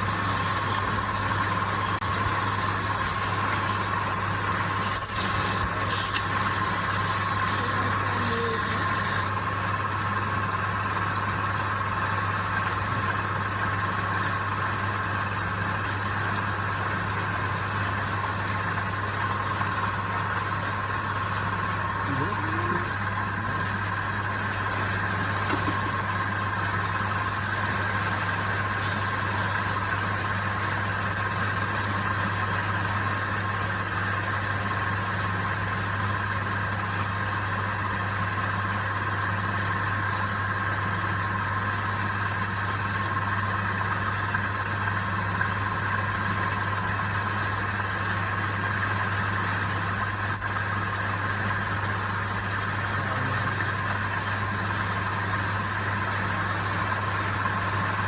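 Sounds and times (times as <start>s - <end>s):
lathe motor humming and whining: 0.0s - 58.0s.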